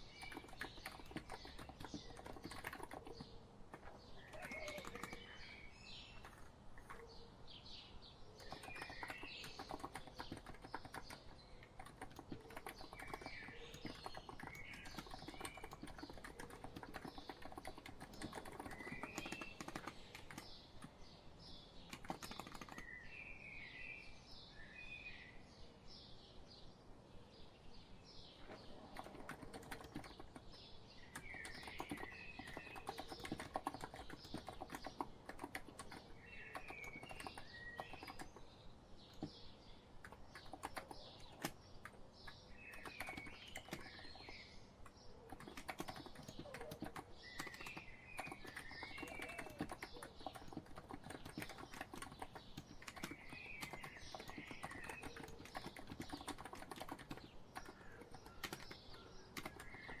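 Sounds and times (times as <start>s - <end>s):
keyboard typing: 0.0s - 7.1s, 8.4s - 22.9s, 28.4s - 60.0s
small birds chirping: 0.0s - 25.2s, 25.9s - 60.0s.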